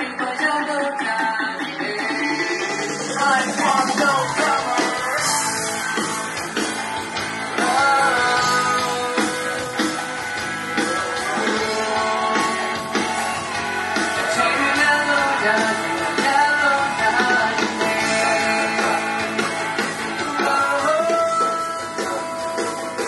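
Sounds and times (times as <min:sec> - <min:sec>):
man singing into microphone: 0:00.0 - 0:05.4, 0:07.6 - 0:13.0, 0:14.2 - 0:19.5, 0:20.1 - 0:23.0
drums: 0:00.0 - 0:23.0
guitar: 0:00.0 - 0:23.0.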